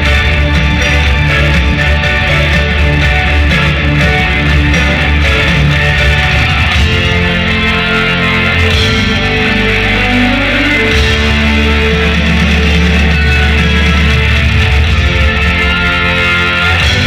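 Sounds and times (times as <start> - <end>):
heavy bass: 0.0 - 17.0
rock band playing live: 0.0 - 17.0.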